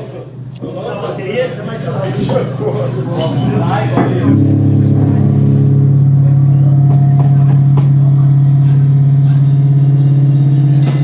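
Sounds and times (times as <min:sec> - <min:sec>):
distorted amplifier drone: 0:00.0 - 0:11.0.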